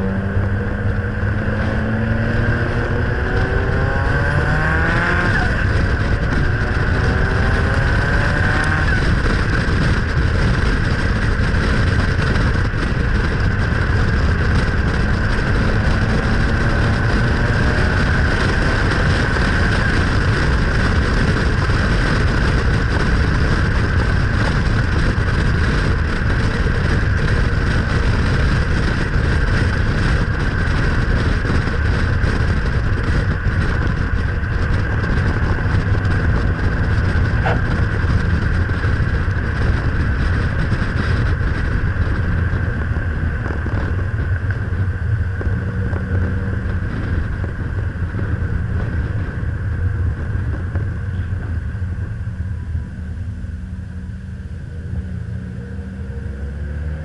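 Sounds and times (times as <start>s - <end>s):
faint car engine: 0.0s - 57.0s
road noise: 0.0s - 57.0s
wind rush: 0.0s - 57.0s.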